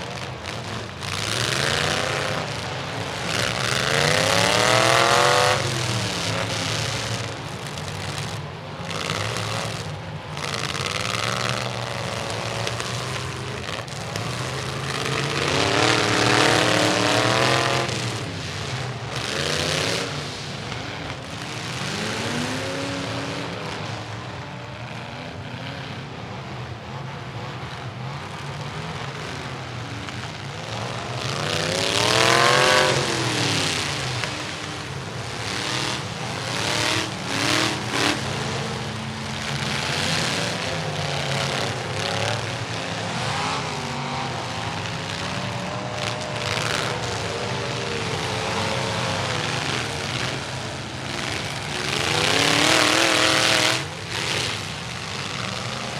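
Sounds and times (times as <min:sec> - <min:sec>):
rough noisy din: 0:00.0 - 0:24.8, 0:27.8 - 0:55.9
truck engines revving hard: 0:00.0 - 0:55.9.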